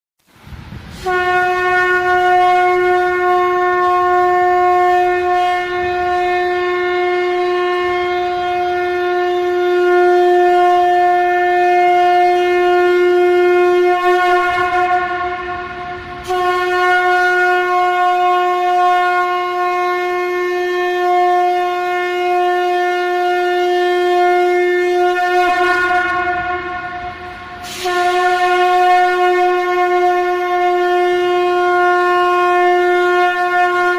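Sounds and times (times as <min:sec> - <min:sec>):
conch shell blown: 0:00.8 - 0:33.9.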